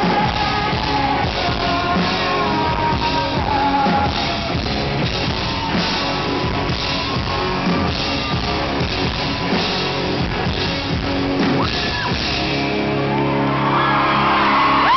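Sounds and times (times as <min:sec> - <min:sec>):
drum kit beat: 0:00.0 - 0:12.9
bass guitar: 0:00.0 - 0:14.9
crowd cheering: 0:00.0 - 0:14.9
distorted electric guitars: 0:00.0 - 0:14.9.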